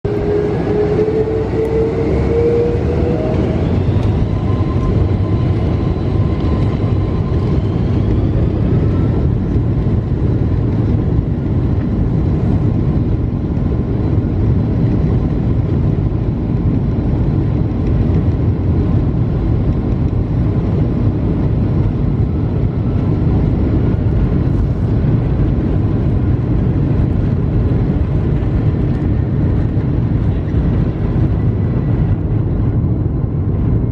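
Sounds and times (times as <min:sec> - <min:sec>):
jet engine rumble in cabin: 0:00.0 - 0:33.9
jet engines whining: 0:00.0 - 0:33.9.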